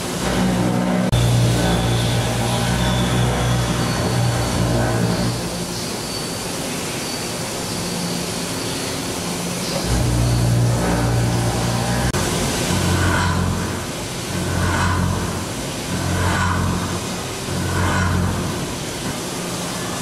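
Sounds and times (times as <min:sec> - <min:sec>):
machine cutting hum: 0:00.0 - 0:06.0, 0:09.7 - 0:20.0.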